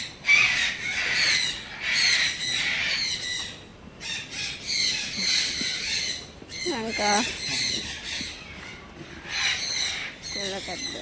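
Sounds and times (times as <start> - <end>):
parrots squawking: 0.2 - 11.0.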